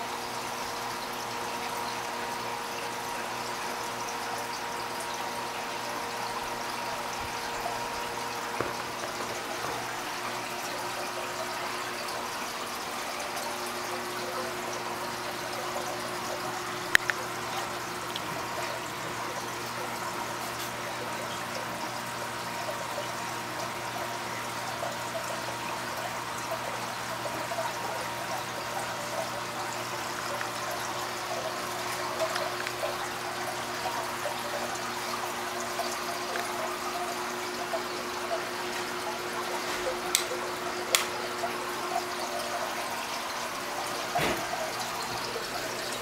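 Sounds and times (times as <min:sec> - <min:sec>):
water trickling and splashing: 0:00.0 - 0:46.0.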